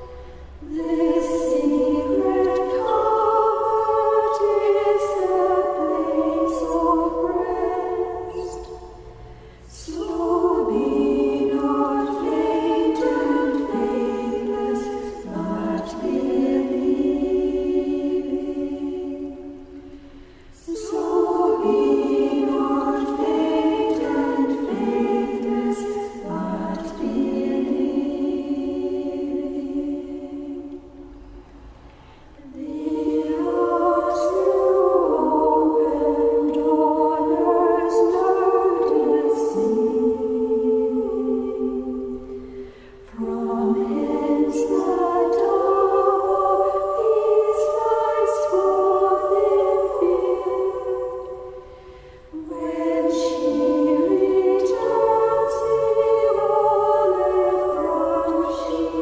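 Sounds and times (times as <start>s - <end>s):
choir singing unaccompanied: 0.0s - 31.4s, 32.2s - 59.0s.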